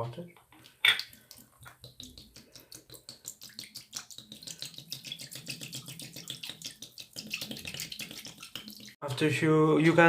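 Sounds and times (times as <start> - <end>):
water pouring into a container: 0.6 - 9.0.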